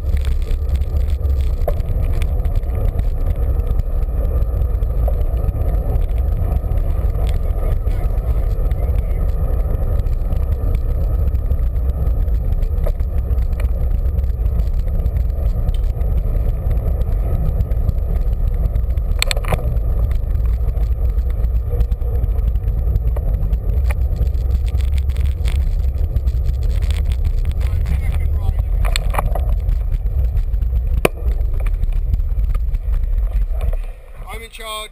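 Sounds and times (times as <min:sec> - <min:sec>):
wind rumbling on microphone: 0:00.0 - 0:34.9.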